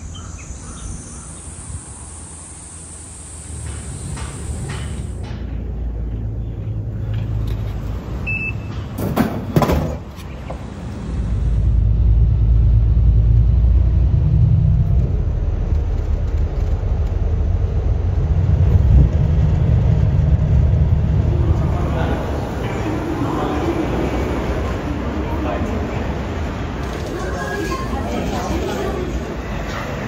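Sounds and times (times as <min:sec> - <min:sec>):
city road traffic rumble: 0:00.0 - 0:30.0.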